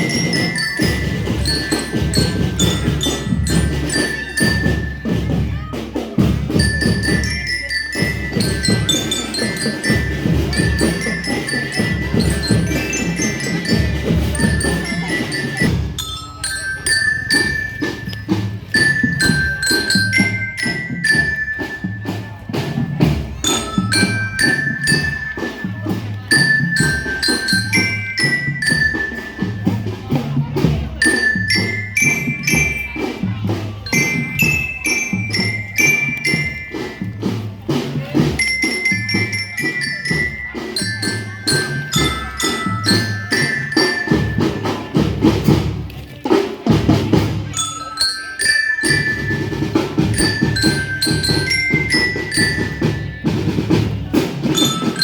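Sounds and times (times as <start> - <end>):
glockenspiel melody: 0.0 - 55.0
snare and bass drums marching: 0.0 - 55.0.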